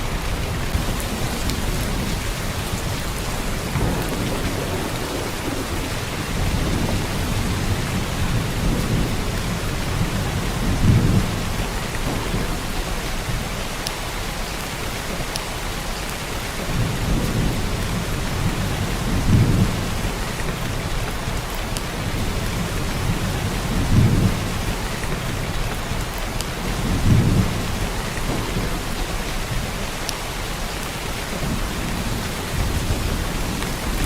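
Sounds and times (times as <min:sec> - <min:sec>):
low rumbles of thunder: 0:00.0 - 0:14.3, 0:16.6 - 0:30.0, 0:31.2 - 0:34.0
heavy rain pouring: 0:00.0 - 0:34.0.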